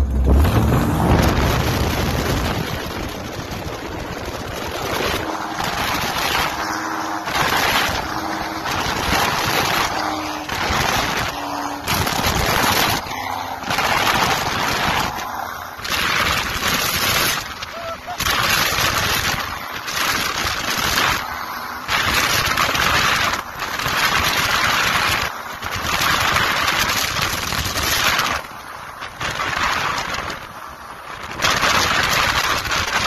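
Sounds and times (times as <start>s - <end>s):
airboat engine and propeller: 0.0s - 33.0s.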